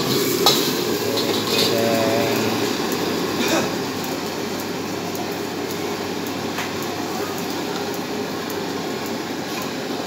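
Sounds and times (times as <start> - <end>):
gas burner roaring: 0.0 - 10.0.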